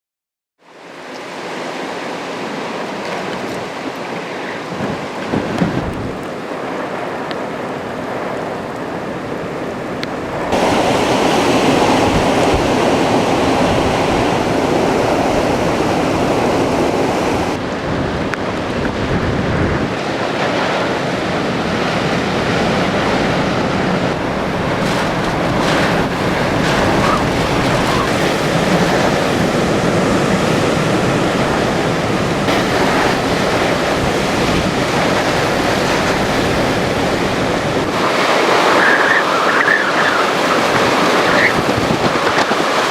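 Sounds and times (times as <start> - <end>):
rushing surf: 0.6 - 42.9
strong wind: 0.7 - 42.9
wind buffeting microphone: 3.0 - 42.9.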